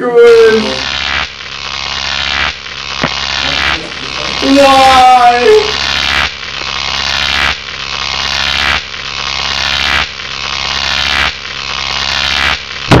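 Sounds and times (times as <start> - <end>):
harsh pulsing noise: 0.0 - 13.0
steady low hum: 0.2 - 13.0.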